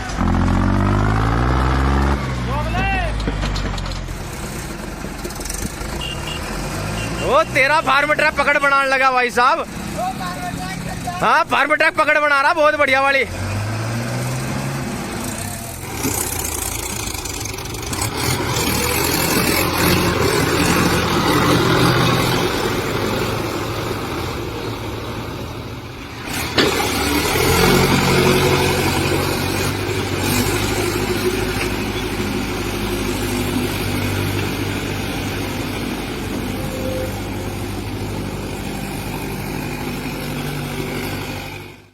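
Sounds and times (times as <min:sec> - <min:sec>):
tractor diesel engines under load: 0:00.0 - 0:41.9.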